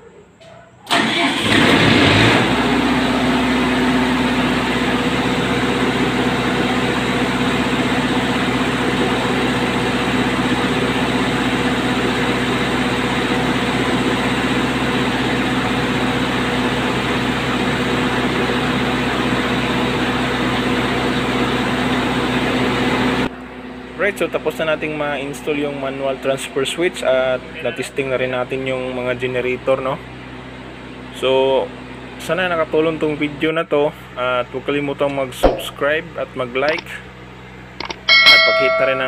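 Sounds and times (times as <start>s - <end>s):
diesel generator humming: 0.0s - 39.0s.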